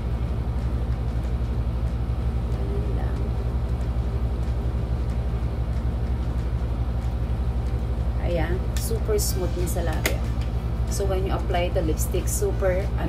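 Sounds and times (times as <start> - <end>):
low hum with flutter: 0.0 - 13.0.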